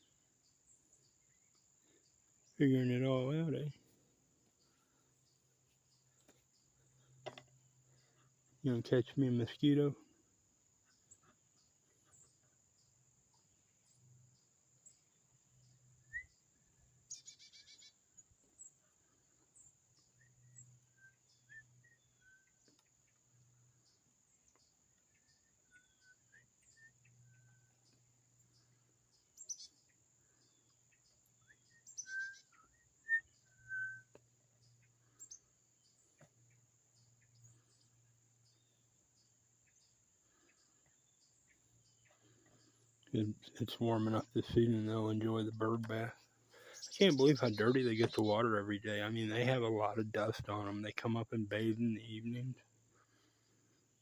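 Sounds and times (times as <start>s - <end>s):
soft bird chirps: 0.0s - 54.0s.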